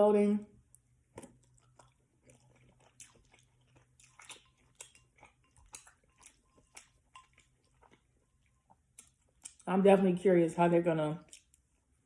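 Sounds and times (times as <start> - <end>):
person chewing noodles: 0.6 - 9.6, 11.2 - 12.0.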